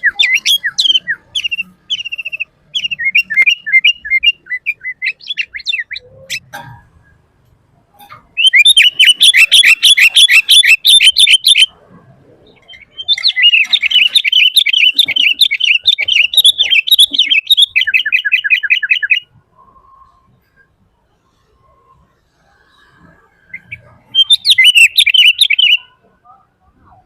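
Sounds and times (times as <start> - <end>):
bird chirping song: 0.0 - 7.2, 7.9 - 27.0.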